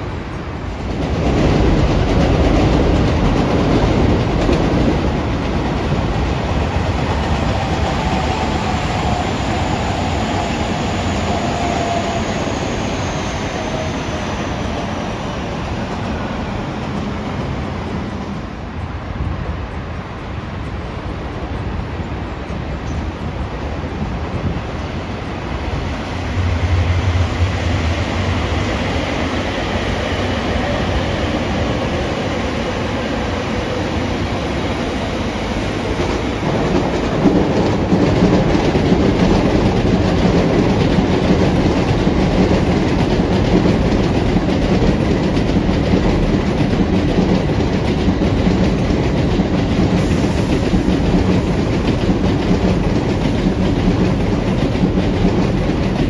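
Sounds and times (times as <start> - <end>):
train rumbling and clattering: 0.0 - 56.0.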